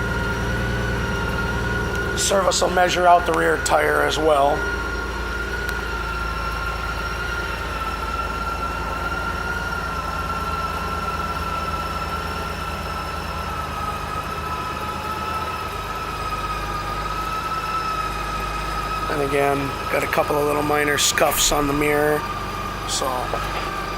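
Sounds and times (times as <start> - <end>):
high steady whine: 0.0 - 23.9
machine running with low hum: 0.0 - 23.9.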